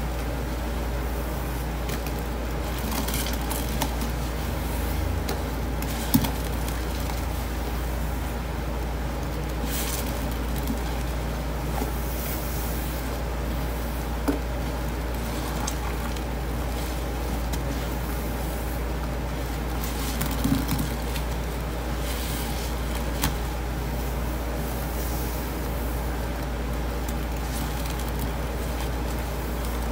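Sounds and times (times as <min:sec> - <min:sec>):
sponges squishing in wet paste: 0:00.0 - 0:29.9.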